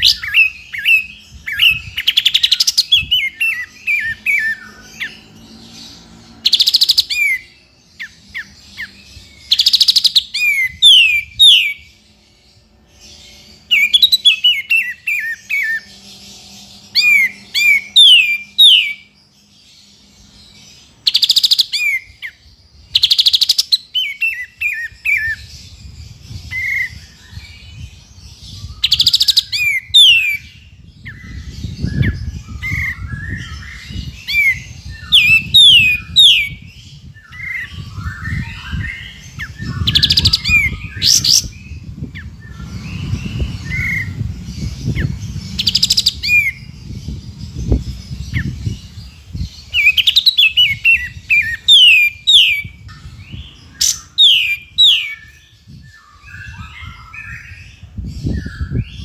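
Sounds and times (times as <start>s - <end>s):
bird whistled song: 0.0s - 59.0s.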